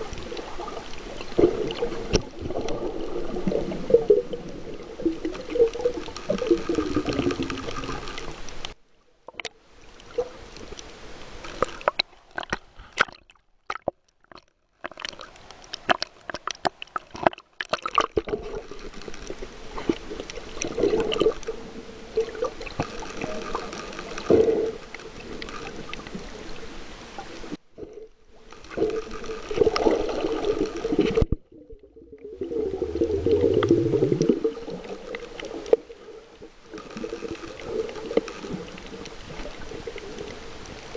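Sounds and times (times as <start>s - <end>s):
muffled underwater sloshing: 0.0s - 40.9s.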